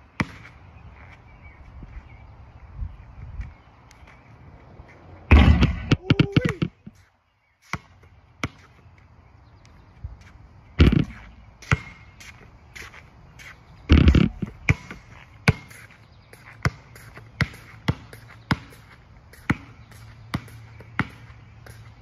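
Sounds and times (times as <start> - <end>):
basketball bouncing on asphalt: 0.0 - 2.1, 3.3 - 22.0.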